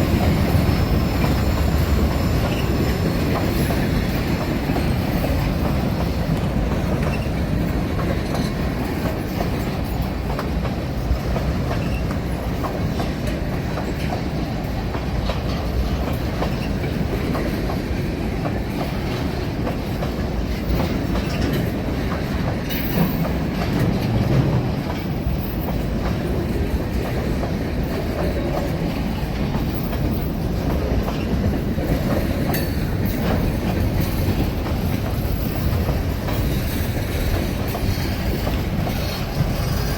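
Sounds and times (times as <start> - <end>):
train rumbling by: 0.0 - 39.9
train wheel clicks: 0.0 - 39.9.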